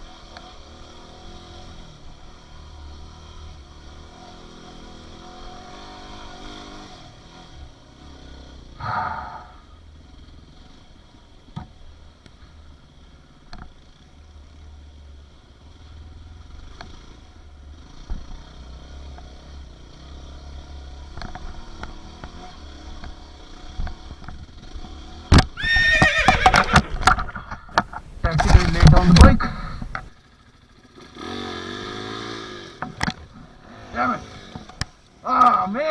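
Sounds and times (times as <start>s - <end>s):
dirt bike engines at low revs: 0.0s - 35.6s.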